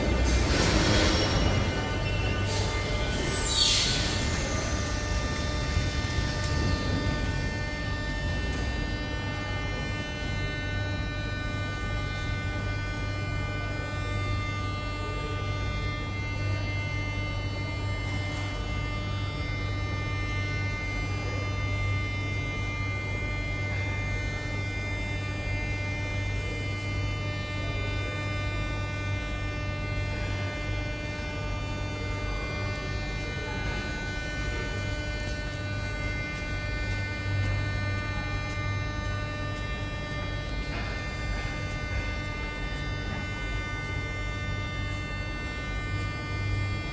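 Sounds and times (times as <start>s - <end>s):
electrical hum: 0.0s - 46.9s
high electrical whine: 0.0s - 46.9s.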